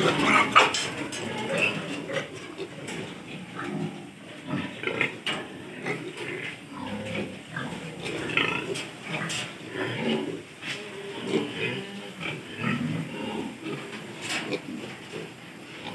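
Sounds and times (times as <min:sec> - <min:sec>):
piglets grunting: 0:00.0 - 0:15.9.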